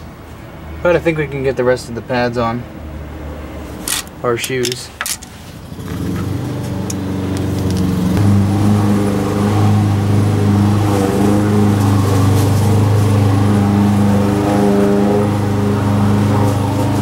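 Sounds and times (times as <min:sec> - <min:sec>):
engine humming deeply: 0:00.0 - 0:17.0.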